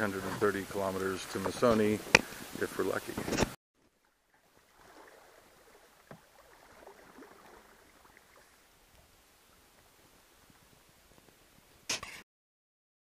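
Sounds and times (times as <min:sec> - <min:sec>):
paddle strokes: 0:00.0 - 0:11.4
water against hull: 0:00.0 - 0:11.6.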